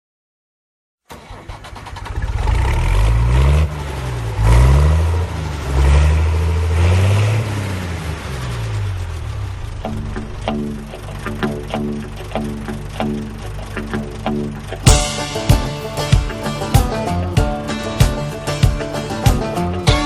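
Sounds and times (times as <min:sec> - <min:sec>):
tractor engine revving: 0:01.1 - 0:20.0.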